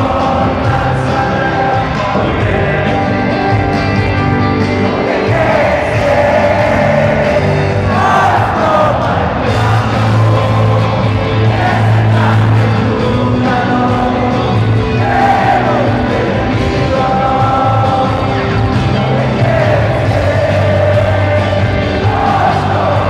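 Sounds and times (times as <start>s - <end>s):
live rock band: 0.0s - 23.0s
person singing: 0.0s - 23.0s.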